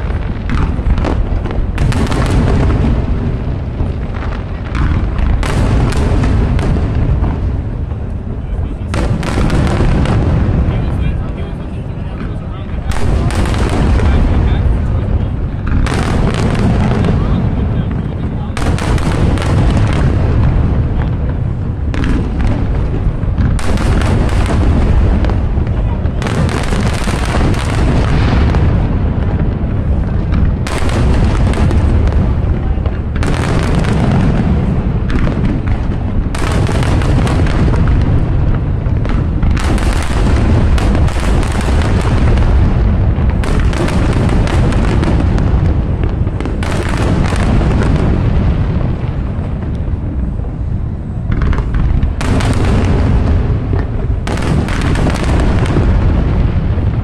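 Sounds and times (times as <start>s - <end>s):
fireworks booming: 0.0s - 57.0s
fireworks sharp cracks: 0.0s - 57.0s.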